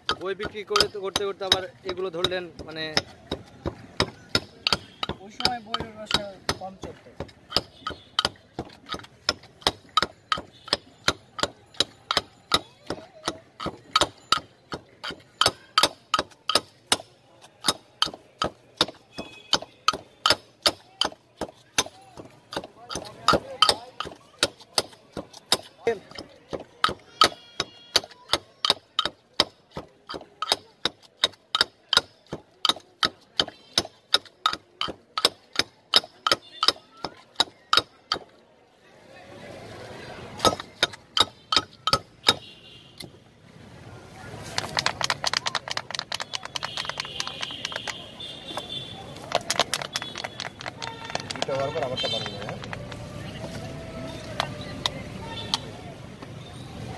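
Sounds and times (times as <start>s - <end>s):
pestle pounding in stone mortar: 0.0s - 38.3s, 40.4s - 43.2s, 44.5s - 55.8s.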